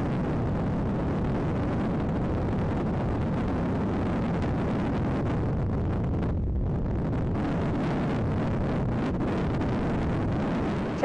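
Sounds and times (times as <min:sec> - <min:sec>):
rushing wind and water: 0:00.0 - 0:11.0.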